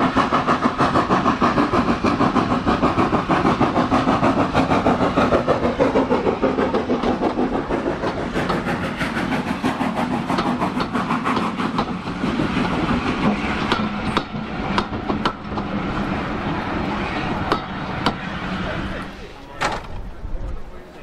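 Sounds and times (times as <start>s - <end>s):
steam locomotive exhaust beats: 0.0s - 21.0s
train wheels clicking over rail joints: 0.0s - 21.0s.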